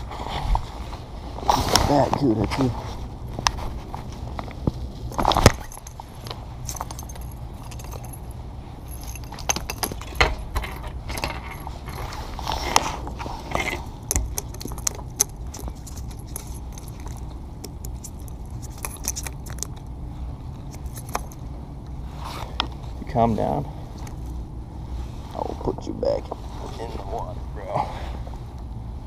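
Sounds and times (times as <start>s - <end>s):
jacket fabric rustling: 0.0s - 19.2s, 20.0s - 29.0s.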